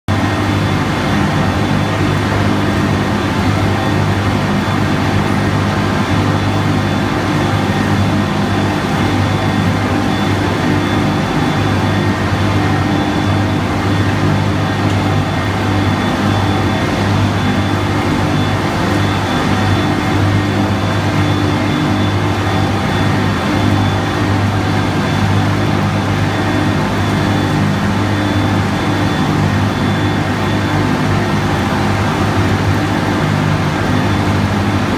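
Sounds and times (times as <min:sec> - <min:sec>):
baler machinery drone: 0:00.1 - 0:34.9
faint high whine: 0:00.2 - 0:34.9.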